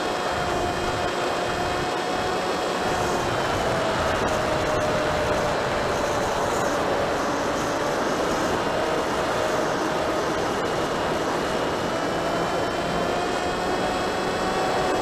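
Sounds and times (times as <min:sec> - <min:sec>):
model plane motor whine: 0:00.0 - 0:15.0
rushing air: 0:00.7 - 0:15.0.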